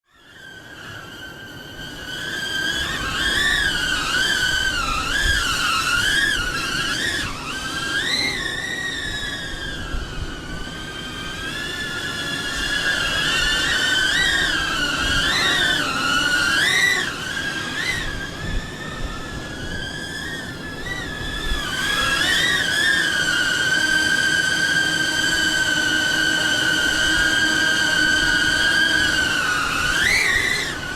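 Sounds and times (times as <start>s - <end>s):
quadcopter propellers whining: 0.0s - 30.9s
wind on microphone: 0.4s - 30.9s.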